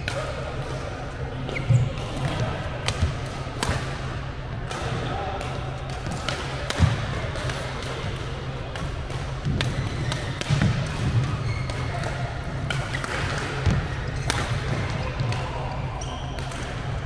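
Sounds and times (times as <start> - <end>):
rackets striking shuttlecock: 2.2 - 15.4, 16.4 - 16.9.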